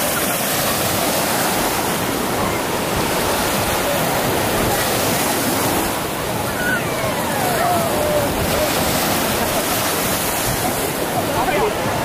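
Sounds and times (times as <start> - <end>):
waves washing onto shore: 0.0 - 12.0.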